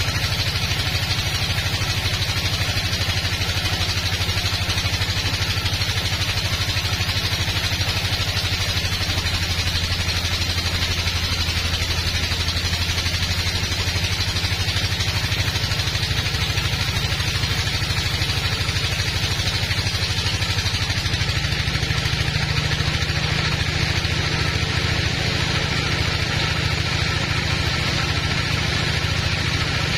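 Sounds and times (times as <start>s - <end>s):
bandsaw running: 0.0s - 29.9s.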